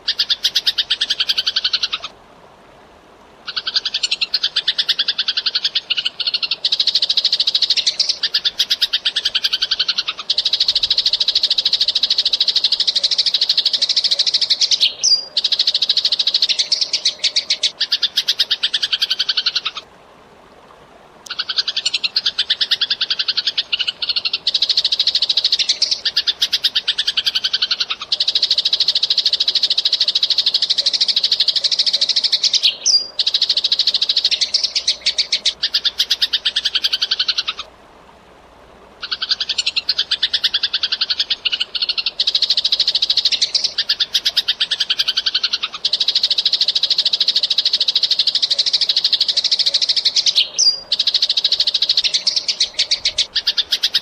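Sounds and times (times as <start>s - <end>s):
sparrows chirping: 3.5s - 19.8s, 21.3s - 37.6s, 39.0s - 54.0s.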